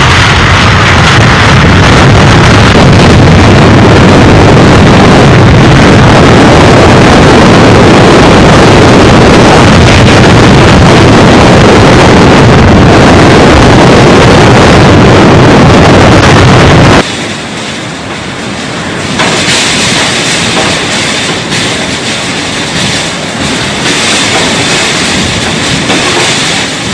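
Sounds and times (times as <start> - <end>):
driving rain: 0.0 - 26.9
strong wind: 0.0 - 26.9.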